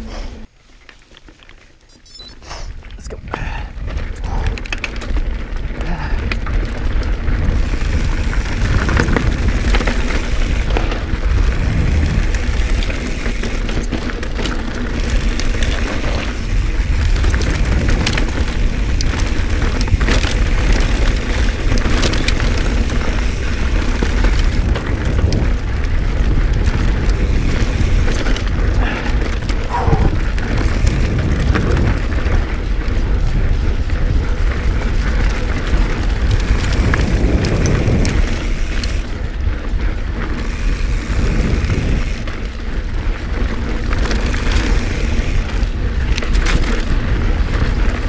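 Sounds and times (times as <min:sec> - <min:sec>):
bike rattling over rocks: 0:02.7 - 0:48.0
wind buffeting microphone: 0:02.7 - 0:48.0
tyres crunching over stones: 0:02.8 - 0:48.0.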